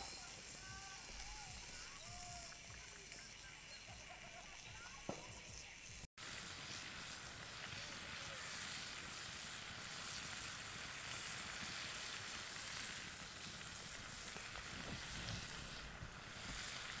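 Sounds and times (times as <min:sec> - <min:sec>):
steak sizzling in a skillet: 0:00.0 - 0:17.0.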